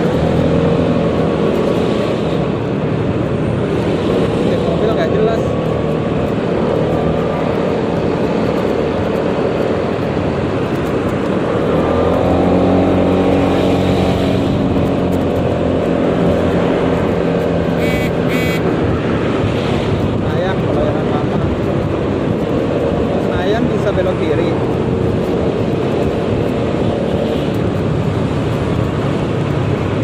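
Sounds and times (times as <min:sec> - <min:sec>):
scooter engine running: 0:00.0 - 0:30.0
wind and road noise: 0:00.0 - 0:30.0.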